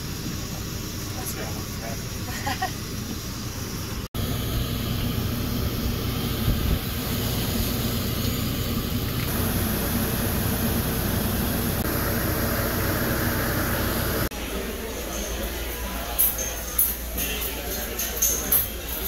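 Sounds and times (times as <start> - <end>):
air conditioner fan running: 0.0 - 19.0.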